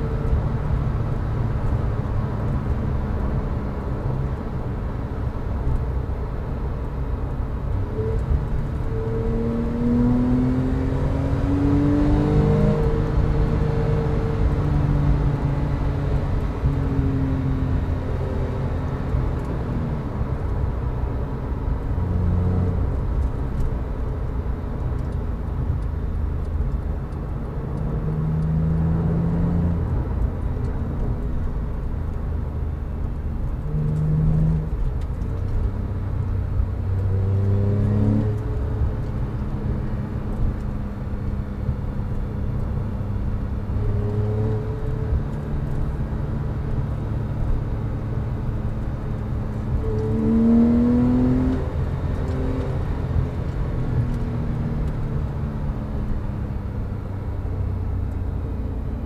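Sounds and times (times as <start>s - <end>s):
tyre and road noise: 0.0s - 59.0s
car engine accelerating: 7.2s - 59.0s.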